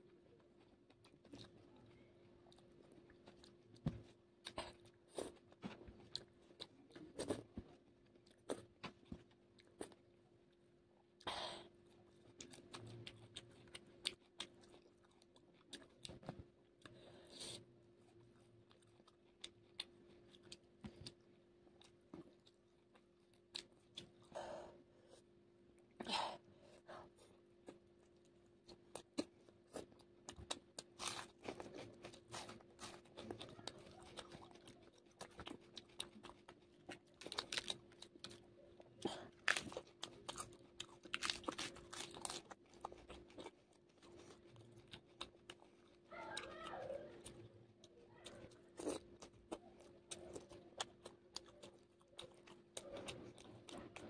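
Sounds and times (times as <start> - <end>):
faint low hum: 0.0 - 54.0
person chewing with crunches: 0.0 - 54.0.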